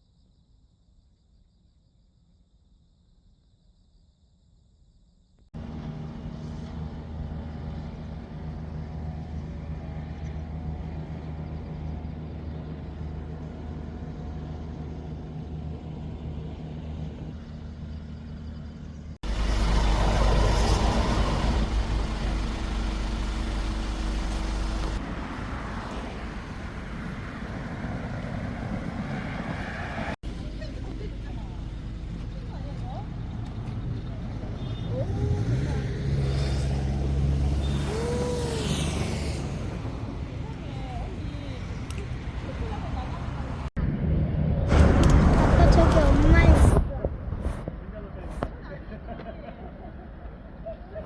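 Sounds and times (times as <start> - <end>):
vehicle engine running: 5.6 - 29.6, 30.2 - 48.6
road noise: 5.6 - 51.0.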